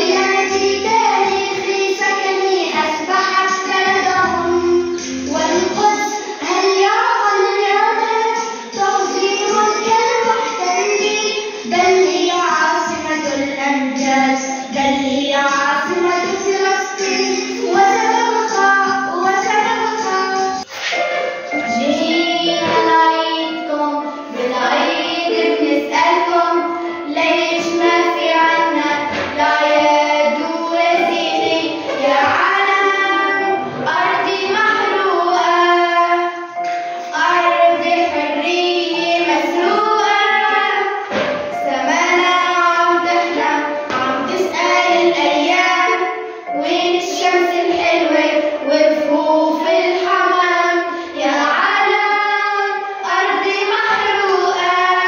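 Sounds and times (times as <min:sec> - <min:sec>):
girls singing: 0:00.0 - 0:55.0.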